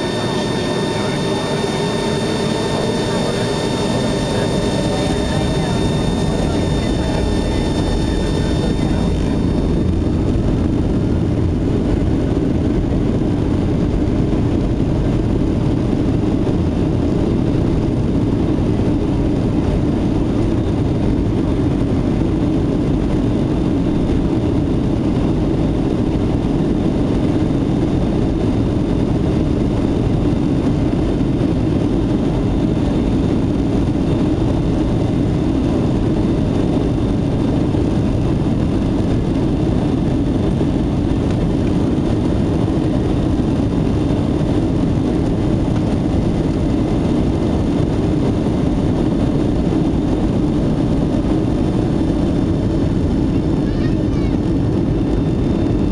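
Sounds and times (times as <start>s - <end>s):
jet engine and airflow in cabin: 0.0s - 55.9s.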